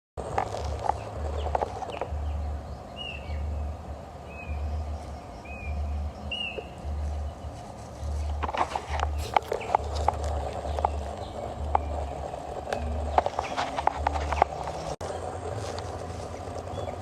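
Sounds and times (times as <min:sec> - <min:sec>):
low pulsing hum: 0:00.2 - 0:17.0
bird chirping: 0:00.3 - 0:17.0.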